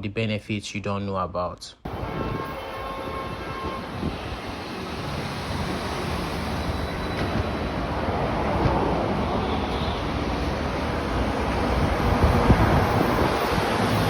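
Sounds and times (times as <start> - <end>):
metro train rumbling: 1.9 - 14.0.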